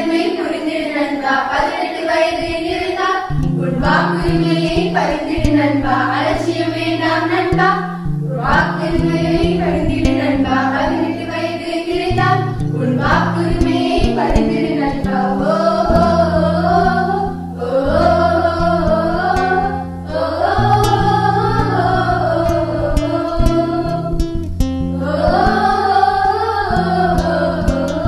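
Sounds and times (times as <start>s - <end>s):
girls singing into microphones: 0.0s - 28.0s
instrumental backing: 1.3s - 28.0s.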